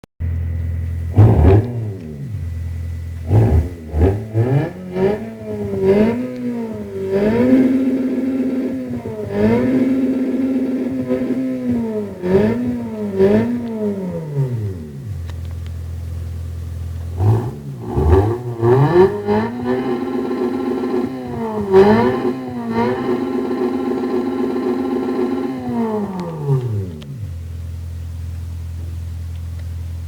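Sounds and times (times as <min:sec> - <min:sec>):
car engine revving: 0:00.2 - 0:28.1.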